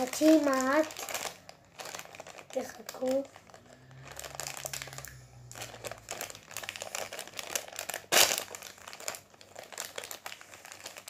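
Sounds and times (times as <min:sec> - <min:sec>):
foil packet crackling: 0:00.0 - 0:11.0
foil packet ripping: 0:00.0 - 0:11.0.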